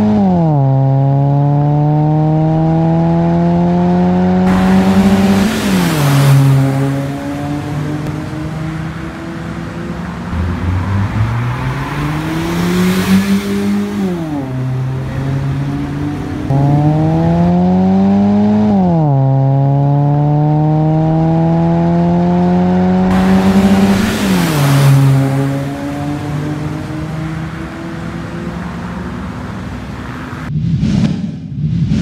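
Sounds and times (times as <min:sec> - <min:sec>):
car engine accelerating hard: 0:00.0 - 0:30.5.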